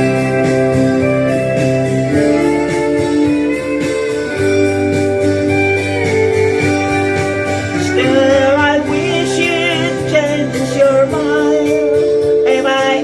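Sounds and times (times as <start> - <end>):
sustained guitar chords: 0.0 - 13.0.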